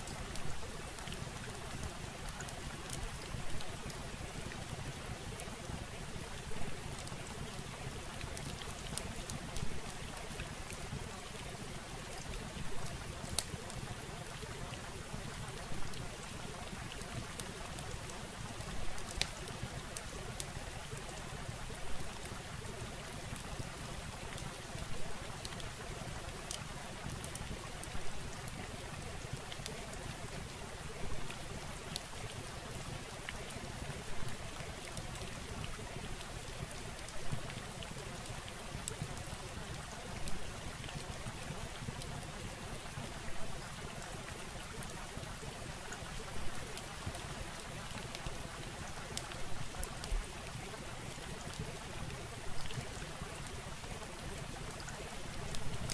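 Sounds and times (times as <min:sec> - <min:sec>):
faint scattered crackles: 0:00.0 - 0:55.9.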